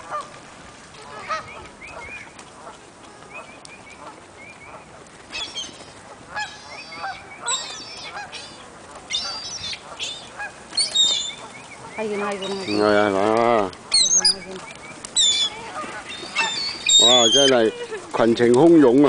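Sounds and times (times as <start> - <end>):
seagulls calling: 0.0 - 19.0.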